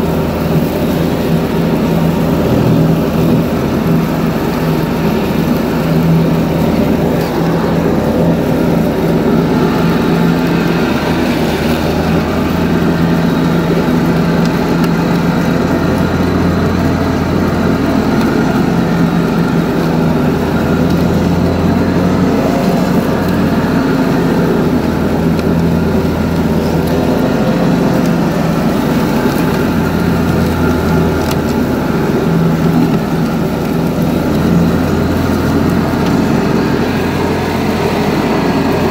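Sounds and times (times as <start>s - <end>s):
mower deck deep hum: 0.0s - 38.9s
tractor engine drone: 0.0s - 38.9s.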